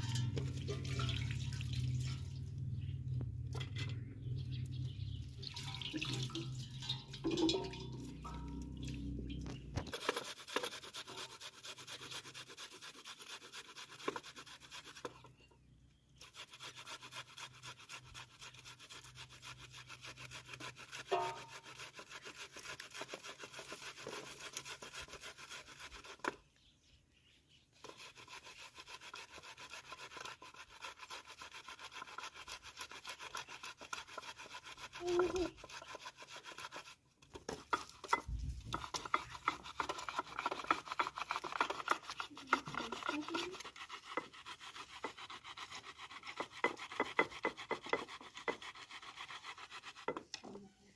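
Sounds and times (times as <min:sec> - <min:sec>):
fast scraping strokes: 0:02.0 - 0:15.4, 0:16.2 - 0:26.4, 0:27.8 - 0:50.4.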